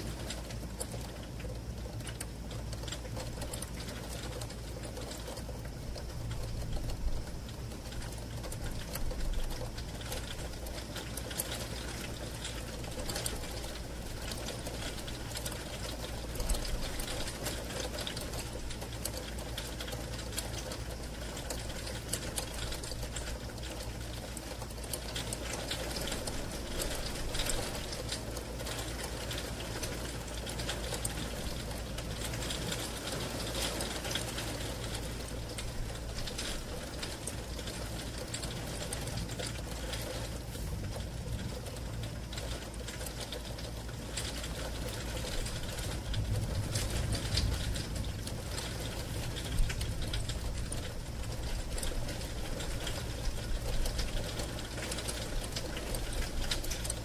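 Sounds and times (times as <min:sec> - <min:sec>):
heavy rain on window: 0:00.0 - 0:57.0
steady low hum: 0:00.0 - 0:57.0.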